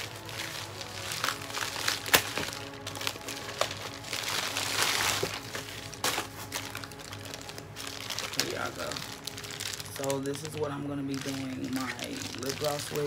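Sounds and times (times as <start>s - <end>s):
background music: 0.0s - 13.0s
plastic bag crinkling: 0.0s - 13.0s.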